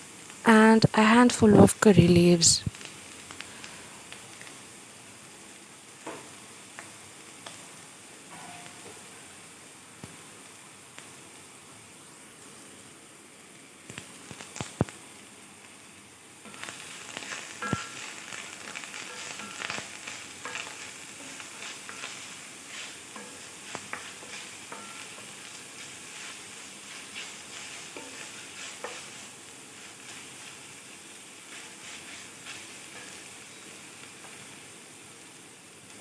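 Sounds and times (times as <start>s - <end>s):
onions sizzling in hot oil: 0.0s - 36.0s.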